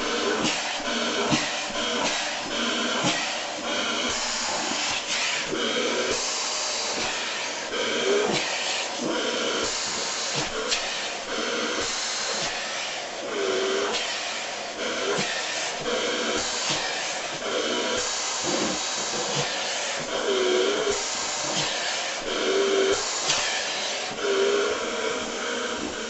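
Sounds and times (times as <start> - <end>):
vacuum cleaner suction hiss: 0.0 - 26.0.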